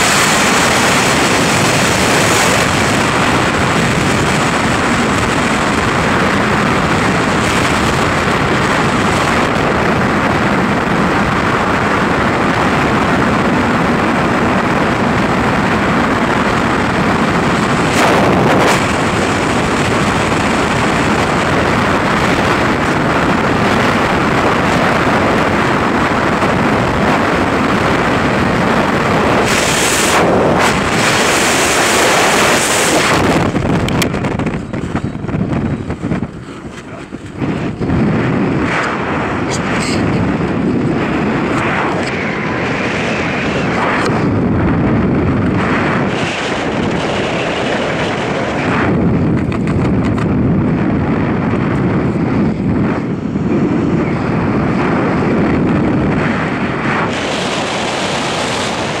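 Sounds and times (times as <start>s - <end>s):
wind roaring over microphone: 0.0s - 59.0s.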